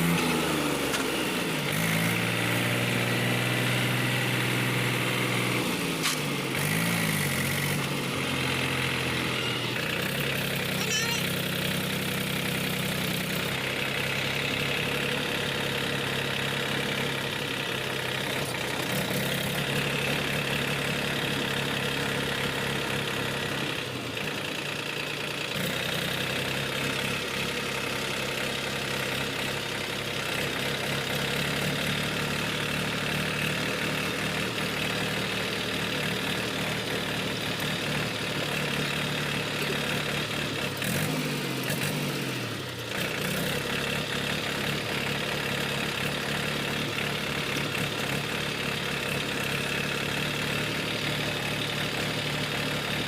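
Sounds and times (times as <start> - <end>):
diesel tractor engine idling: 0.0 - 53.0.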